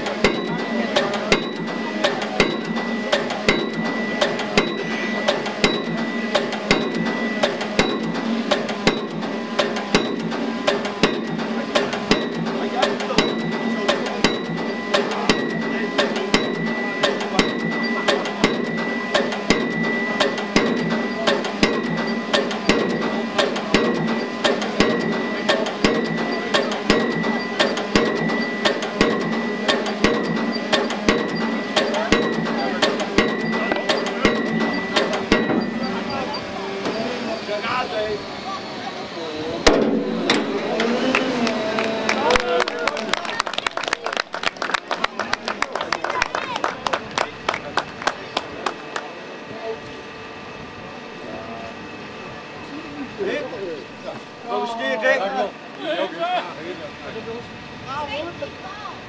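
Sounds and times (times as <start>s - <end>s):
pile driver hammer blows: 0.0s - 38.1s, 39.6s - 49.1s
steady high whine: 0.0s - 59.0s.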